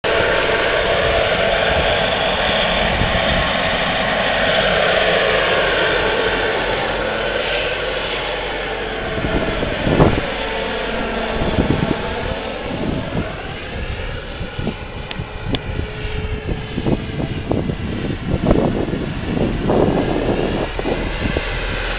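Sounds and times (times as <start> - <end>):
jet turbine engine whine: 0.0 - 21.9
wind buffeting microphone: 0.0 - 21.9.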